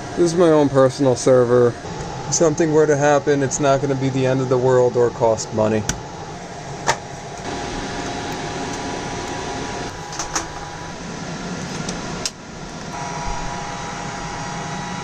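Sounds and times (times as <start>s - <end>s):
cooling fans whining: 0.0s - 15.0s.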